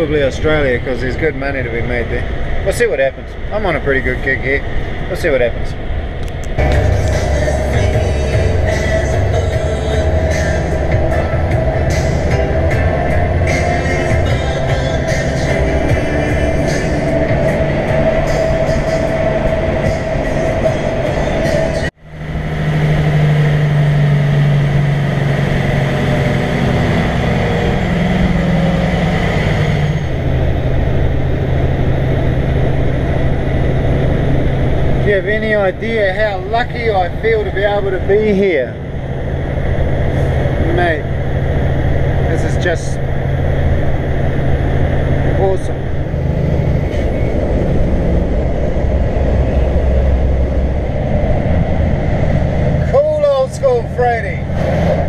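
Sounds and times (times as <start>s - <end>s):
road noise: 0.0s - 55.0s
truck diesel engine droning: 0.0s - 55.0s.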